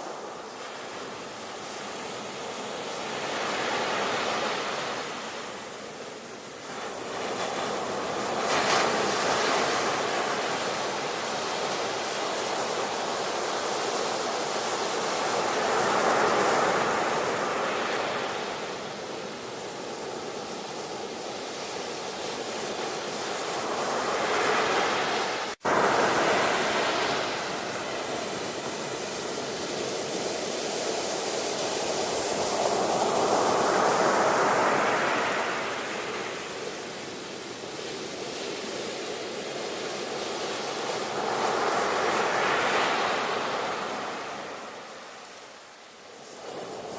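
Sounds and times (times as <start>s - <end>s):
ocean waves washing in: 0.0s - 46.9s.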